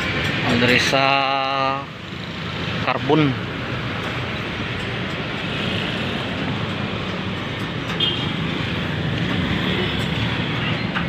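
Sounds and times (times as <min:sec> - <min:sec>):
street traffic engines: 0:00.0 - 0:11.0.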